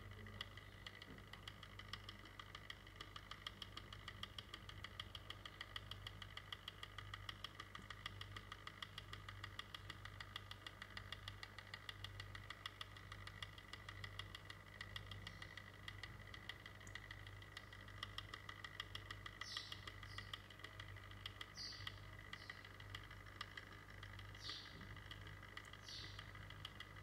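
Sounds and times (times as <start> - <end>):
small electric motor humming and ticking: 0.0 - 27.0.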